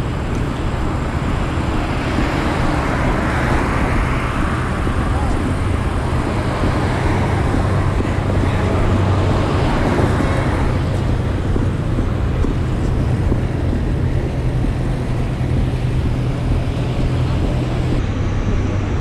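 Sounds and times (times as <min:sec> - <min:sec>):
roadside traffic hum: 0:00.0 - 0:19.0.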